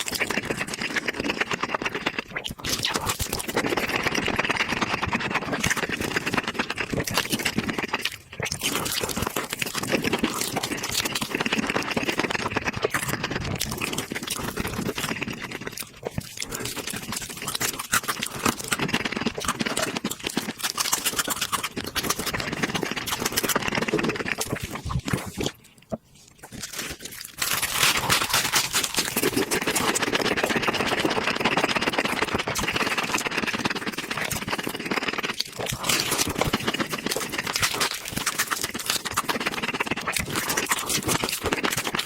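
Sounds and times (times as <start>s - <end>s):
crunching fried chicken: 0.0s - 42.0s.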